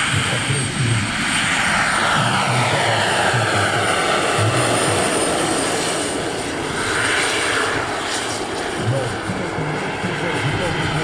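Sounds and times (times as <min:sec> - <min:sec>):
model helicopter turbine whine: 0:00.0 - 0:11.0.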